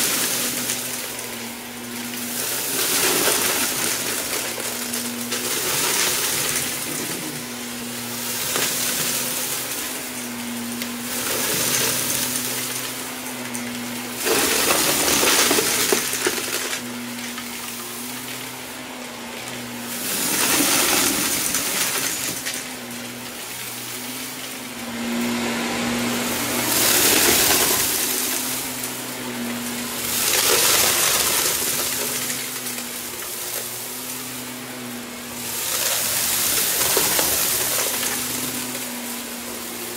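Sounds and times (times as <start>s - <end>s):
vacuum cleaner motor hum: 0.0s - 39.9s
vacuum sucking up debris: 0.0s - 39.9s.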